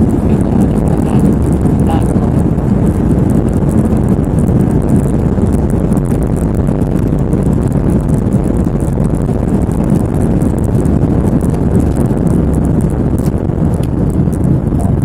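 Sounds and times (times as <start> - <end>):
aircraft engines and airflow rumble: 0.0 - 15.0.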